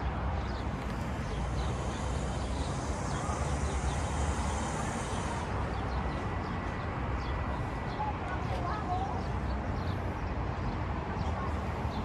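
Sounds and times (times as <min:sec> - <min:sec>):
distant traffic hum: 0:00.0 - 0:12.0.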